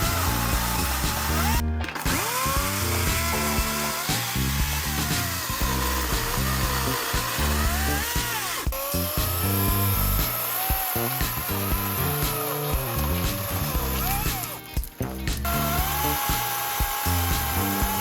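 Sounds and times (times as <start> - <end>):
background music with steady beat: 0.0 - 18.0
electric chainsaw cutting wood: 0.0 - 18.0.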